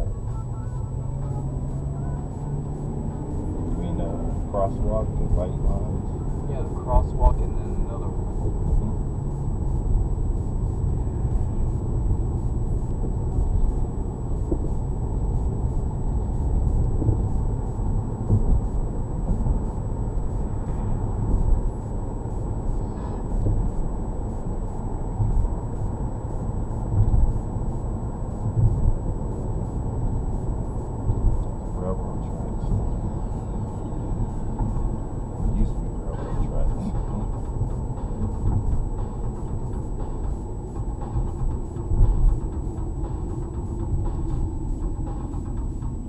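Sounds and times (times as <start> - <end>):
faint high whine: 0.0 - 37.4
car engine and tyres rumbling: 0.0 - 46.0.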